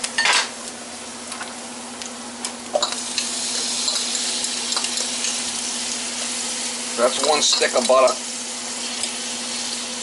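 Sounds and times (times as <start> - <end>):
onions sizzling in a pan: 0.0 - 10.0.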